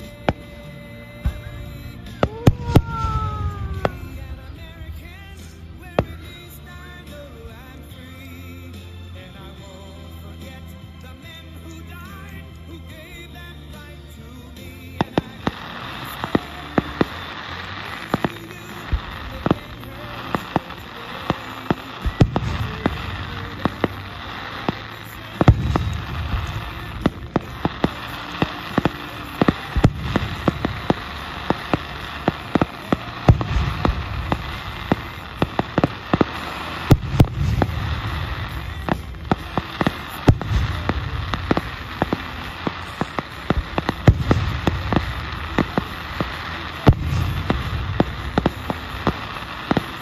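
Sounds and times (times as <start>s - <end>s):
deep fireworks booms: 0.0s - 8.2s, 14.1s - 50.0s
fireworks cracking and crackling: 0.0s - 50.0s.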